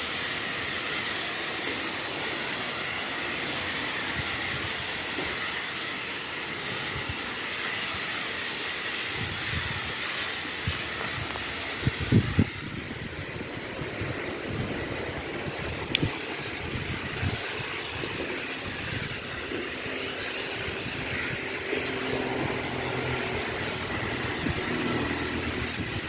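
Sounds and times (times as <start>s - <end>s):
high-pressure water spray hiss: 0.0s - 26.0s.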